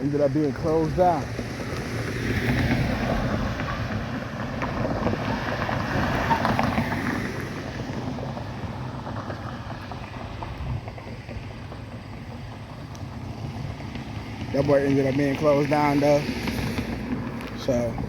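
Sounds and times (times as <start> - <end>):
passing vehicle: 0.0 - 18.0
wind rumbling on microphone: 0.0 - 18.0.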